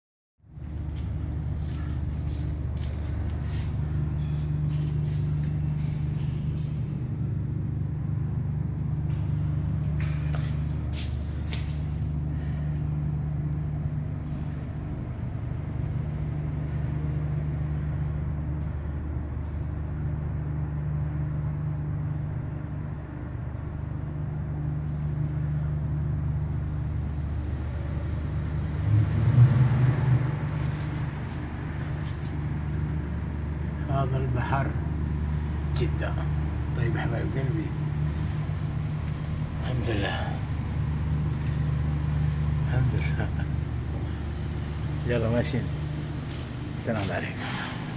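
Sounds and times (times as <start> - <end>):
low mechanical hum: 0.4 - 47.9.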